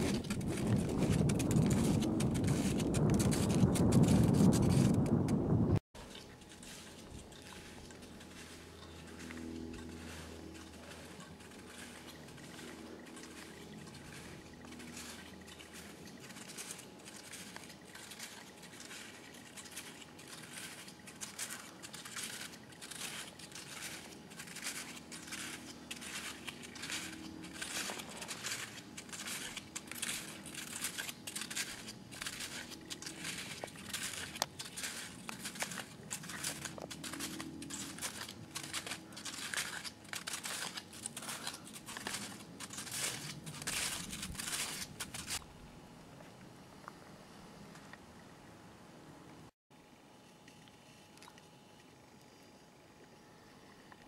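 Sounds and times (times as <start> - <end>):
snowshoes crunching in snow: 0.0 - 45.4.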